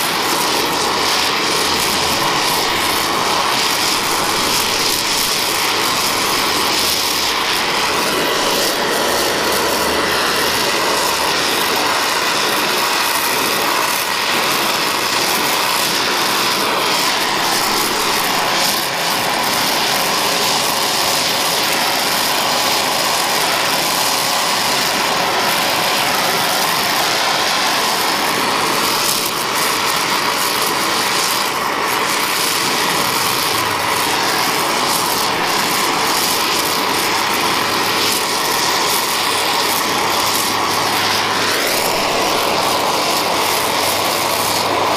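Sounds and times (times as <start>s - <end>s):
torch flame hissing: 0.0s - 44.9s.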